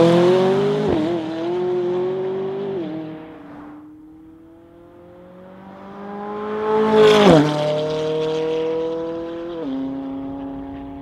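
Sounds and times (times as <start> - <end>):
sports car accelerating past: 0.0 - 11.0.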